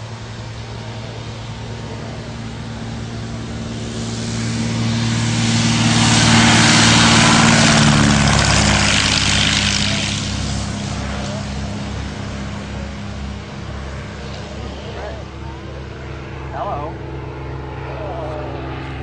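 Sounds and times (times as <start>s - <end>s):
propeller airplane engine drone: 0.0s - 19.0s.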